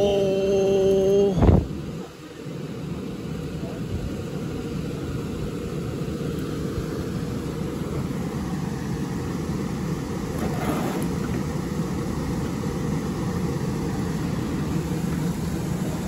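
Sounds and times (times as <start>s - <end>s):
low-pitched background noise: 0.0s - 16.0s.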